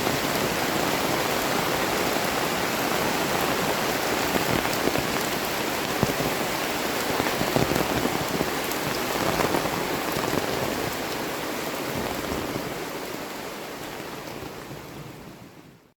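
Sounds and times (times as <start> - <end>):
heavy rain falling: 0.0 - 15.6.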